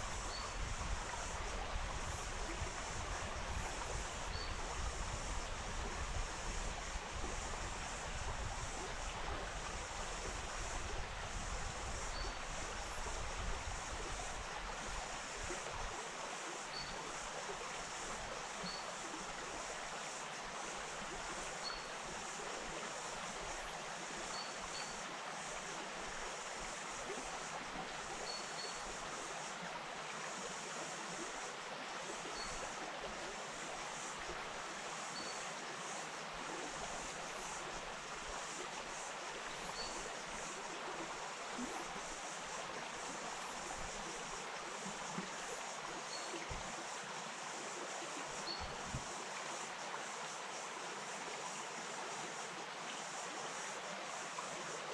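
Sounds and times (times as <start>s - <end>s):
stream flowing: 0.0s - 54.9s.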